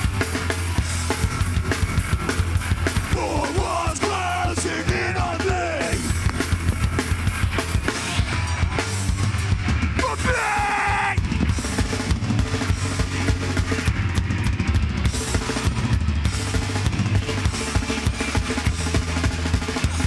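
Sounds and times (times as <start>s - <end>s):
metal band playing: 0.0s - 20.0s.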